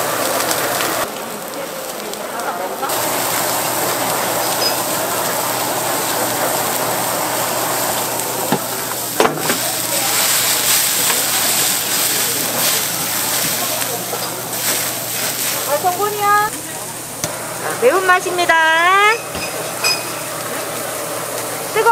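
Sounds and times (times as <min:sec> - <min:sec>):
meat skewers sizzling: 0:00.0 - 0:21.9
gas torch hissing: 0:02.8 - 0:21.9.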